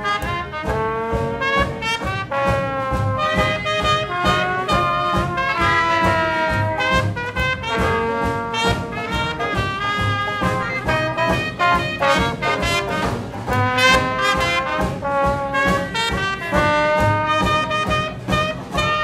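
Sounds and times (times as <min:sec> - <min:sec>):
jazz band playing swing: 0:00.0 - 0:19.0.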